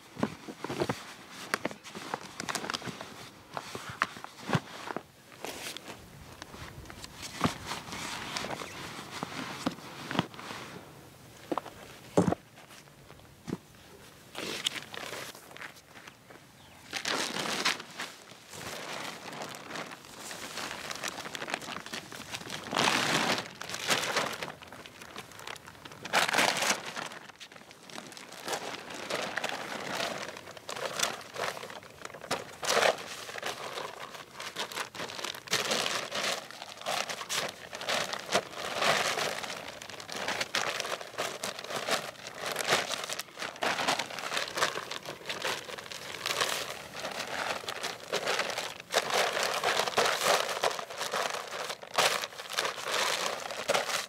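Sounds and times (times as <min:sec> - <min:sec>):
ground sheet crinkling and rustling: 0:00.0 - 0:54.0.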